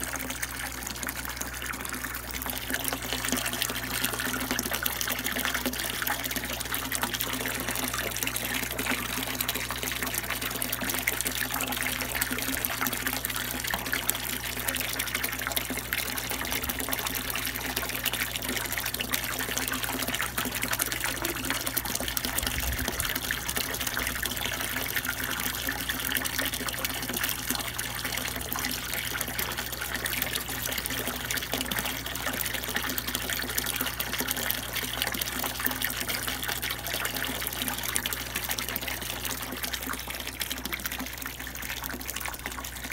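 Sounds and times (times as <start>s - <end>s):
low steady hum: 0.0s - 42.9s
water pouring and splashing: 0.0s - 42.9s.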